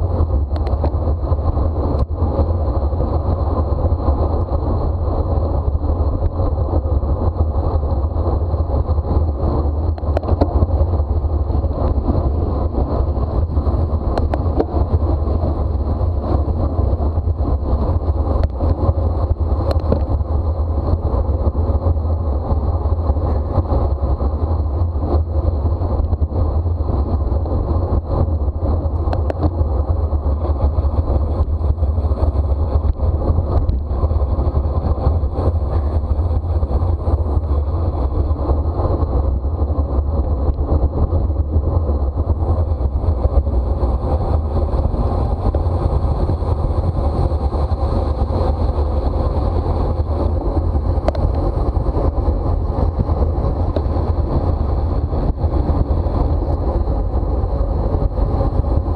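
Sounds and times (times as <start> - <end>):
tyre and road noise: 0.0 - 58.9
wind rushing over microphone: 0.0 - 58.9.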